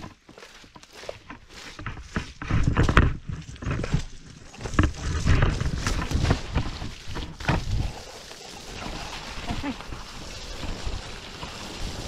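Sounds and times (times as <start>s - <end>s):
board wheels rolling on dirt: 0.0s - 12.0s.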